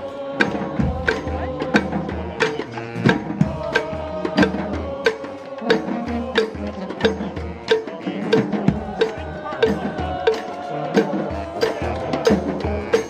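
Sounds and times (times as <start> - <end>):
brass street band playing: 0.0 - 13.0.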